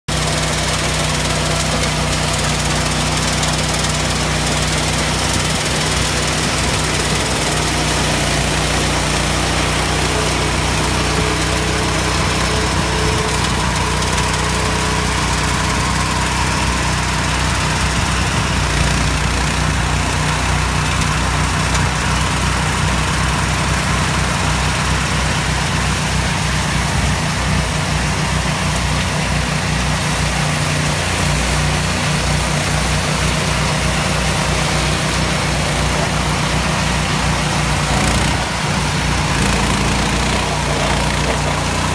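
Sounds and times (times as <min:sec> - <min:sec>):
small engine running under load: 0:00.1 - 0:41.9.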